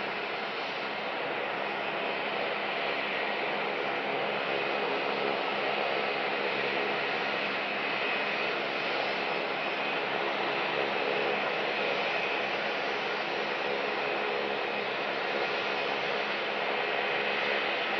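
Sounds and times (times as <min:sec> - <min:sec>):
jet engines idling: 0:00.0 - 0:17.9.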